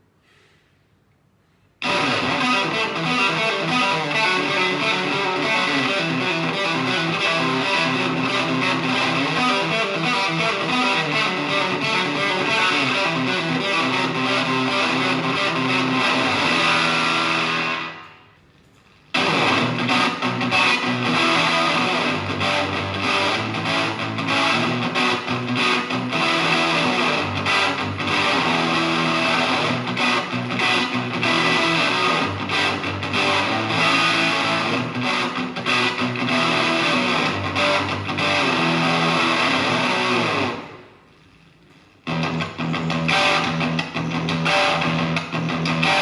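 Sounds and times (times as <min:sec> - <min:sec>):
fuzzy distorted electric guitar: 0:01.8 - 0:46.0.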